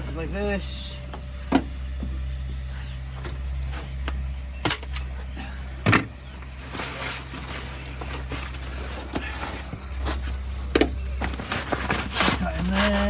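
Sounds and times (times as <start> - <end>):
engine running rumble: 0.0 - 13.0.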